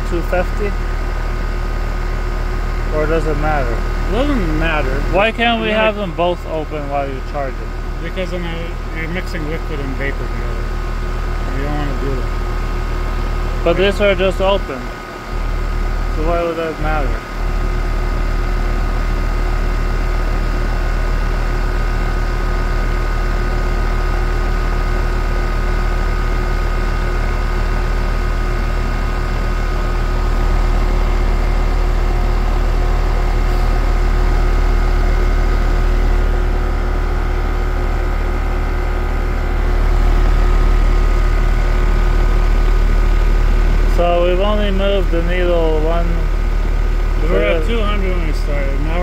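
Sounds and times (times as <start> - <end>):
air conditioner compressor hum: 0.0 - 49.0
fan noise: 0.0 - 49.0.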